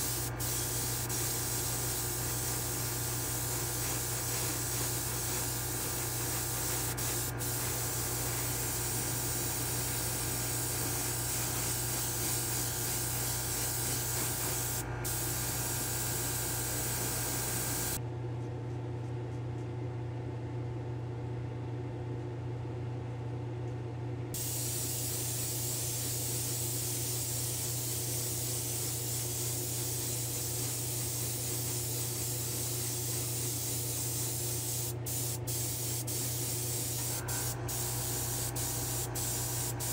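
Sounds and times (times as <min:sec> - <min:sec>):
airbrush spraying hiss: 0:00.0 - 0:18.0, 0:24.4 - 0:39.9
steady low hum: 0:00.0 - 0:18.0, 0:24.4 - 0:39.9.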